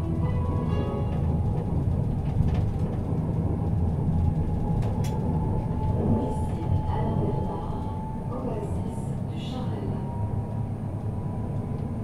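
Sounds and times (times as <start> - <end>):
tram wheels rumbling on rail: 0.0 - 12.0.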